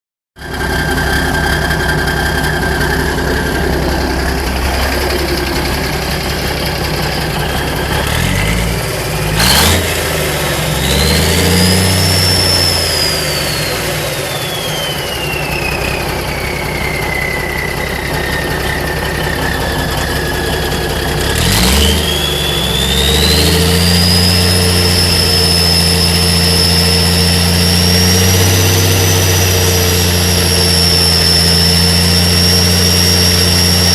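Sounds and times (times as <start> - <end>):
diesel engine idling and revving: 0.4 - 33.9
high turbo whistle: 0.6 - 33.9.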